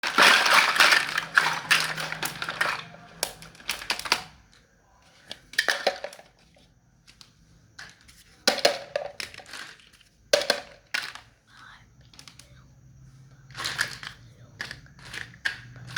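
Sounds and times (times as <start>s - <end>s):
plastic toy pieces clattering: 0.0s - 4.6s, 5.3s - 11.3s, 13.5s - 15.9s.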